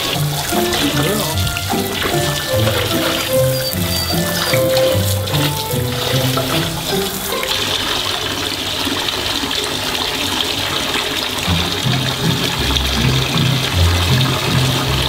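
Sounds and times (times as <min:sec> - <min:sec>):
water running into a bathtub: 0:00.0 - 0:15.0.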